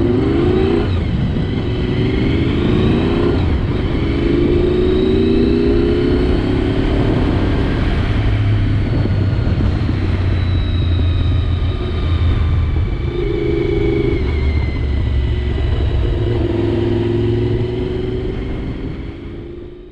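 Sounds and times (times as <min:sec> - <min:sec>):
motorcycle engine running: 0:00.0 - 0:19.9
wind rush: 0:00.0 - 0:19.9.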